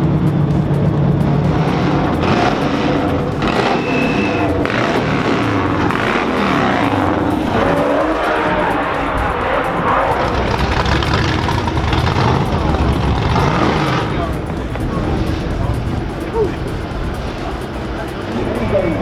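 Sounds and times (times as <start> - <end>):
music: 0.0 - 19.0
sports car engines passing: 0.0 - 19.0.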